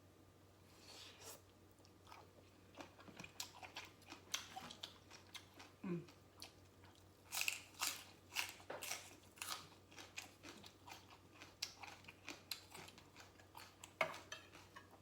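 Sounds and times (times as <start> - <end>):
person chewing crunchy food: 1.2 - 15.0.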